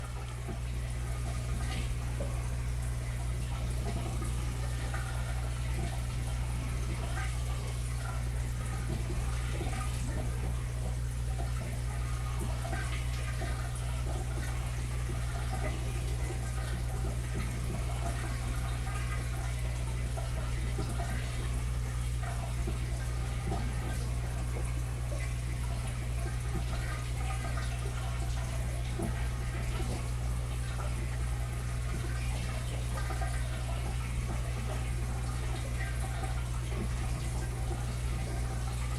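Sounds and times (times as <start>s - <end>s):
pump humming: 0.0s - 38.9s
water splashing and gurgling: 0.0s - 38.9s.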